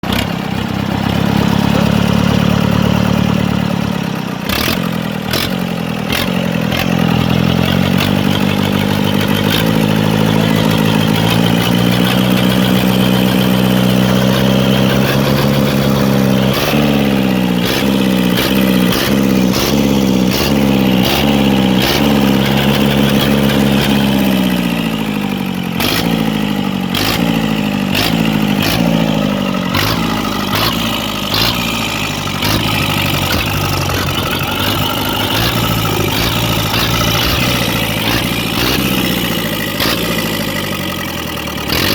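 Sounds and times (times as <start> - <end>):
engine revving: 0.0 - 41.9.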